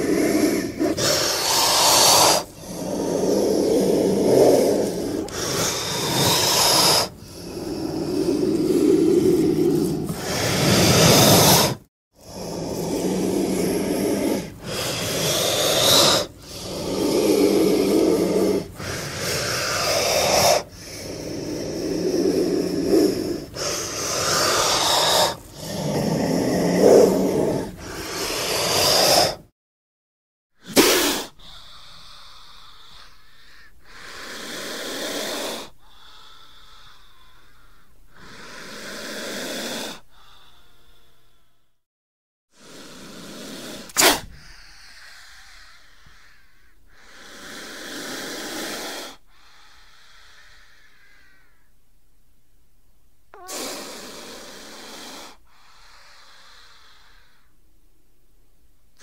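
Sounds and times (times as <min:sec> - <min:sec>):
cobra hissing: 0:00.0 - 0:29.5, 0:30.6 - 0:41.6, 0:42.5 - 0:51.8, 0:53.3 - 0:57.7.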